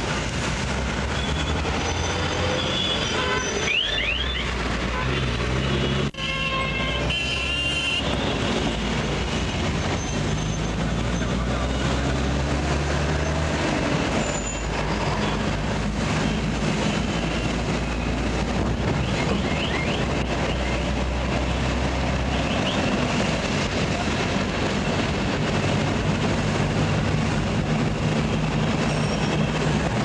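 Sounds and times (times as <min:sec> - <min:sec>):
heavy road traffic: 0:00.0 - 0:30.0.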